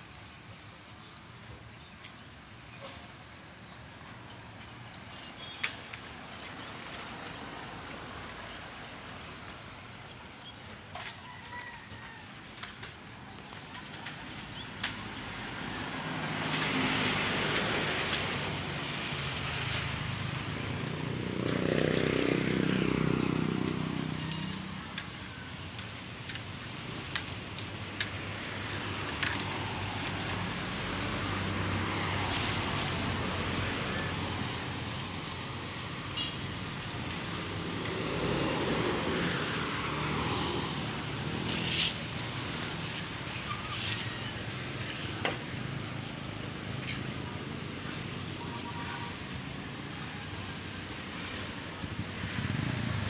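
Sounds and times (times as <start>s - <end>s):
vehicles driving past: 0.2s - 53.0s.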